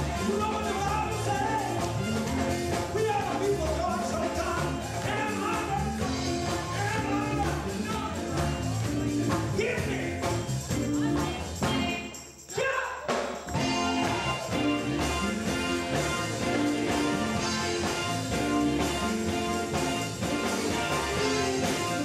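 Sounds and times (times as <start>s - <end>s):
steady bass line: 0.0s - 12.0s, 13.6s - 22.0s
gospel band playing: 0.0s - 22.0s
people singing: 0.0s - 22.0s.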